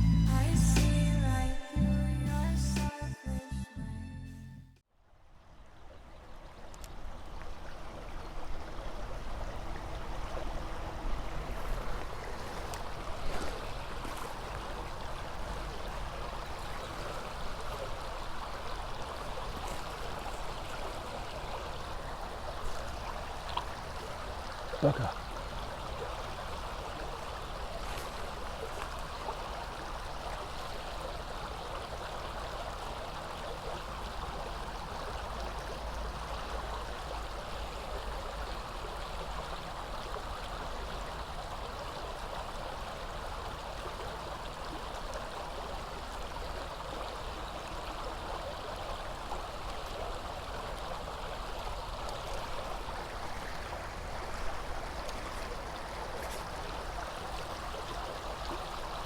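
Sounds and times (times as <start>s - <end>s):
stream flowing: 5.1s - 59.0s.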